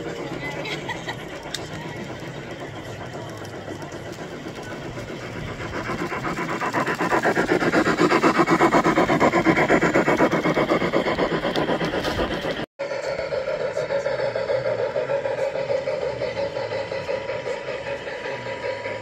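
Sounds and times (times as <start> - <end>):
model train clattering on track: 0.0 - 19.0.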